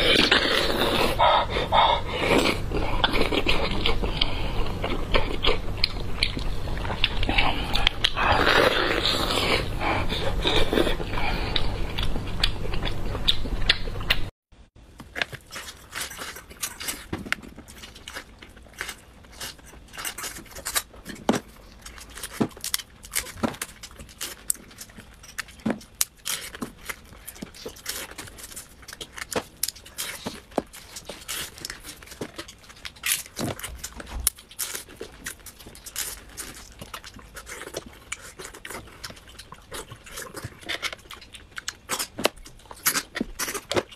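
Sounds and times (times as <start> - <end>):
biting and chewing: 0.0 - 14.3, 14.9 - 43.9.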